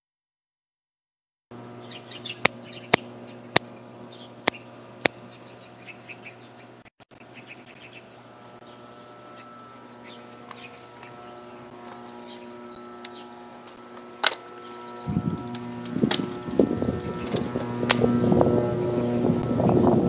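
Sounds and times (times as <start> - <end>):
low hum: 1.5 - 20.0
small bird chirping: 1.5 - 20.0.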